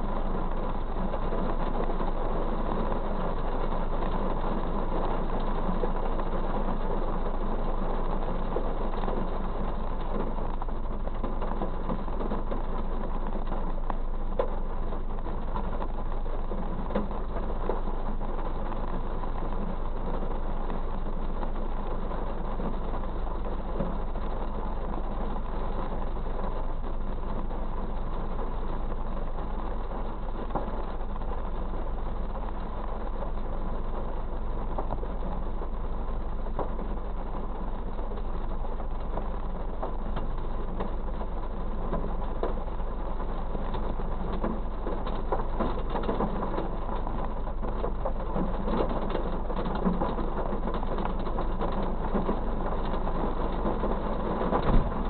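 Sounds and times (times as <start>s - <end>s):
rain pattering on a car: 0.0s - 55.0s.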